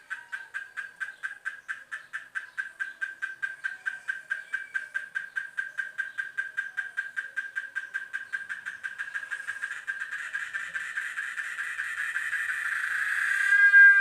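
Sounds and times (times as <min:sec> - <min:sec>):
cicada pulsing call: 0:00.0 - 0:14.0.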